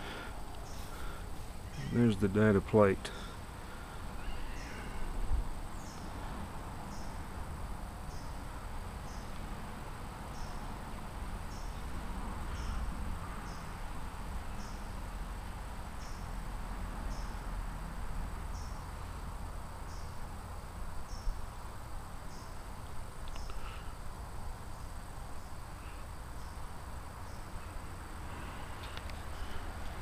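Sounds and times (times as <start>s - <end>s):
insect chirping: 0.0s - 30.0s.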